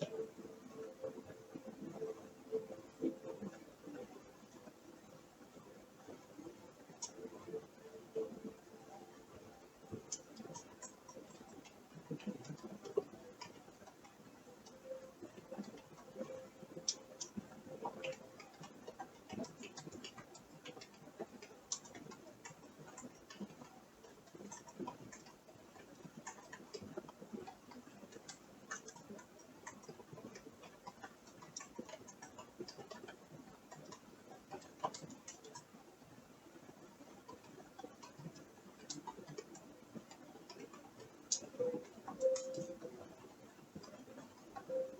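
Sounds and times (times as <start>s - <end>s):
faint creaks and ticks: 0.0s - 44.9s.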